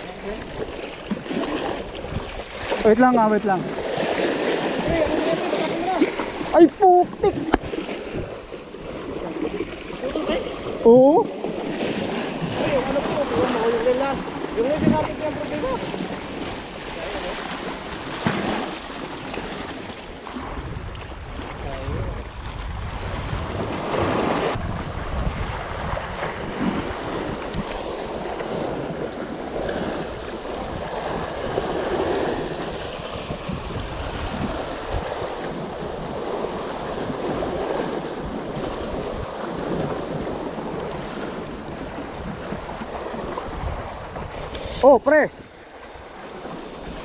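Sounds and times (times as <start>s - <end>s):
sea waves breaking on rocks: 0.0s - 47.0s
wind buffeting microphone: 0.0s - 47.0s.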